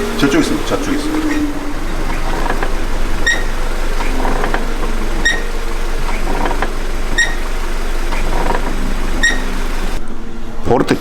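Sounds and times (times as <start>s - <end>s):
drum brake squeaking: 0.0s - 10.0s
car running hum: 0.0s - 10.7s.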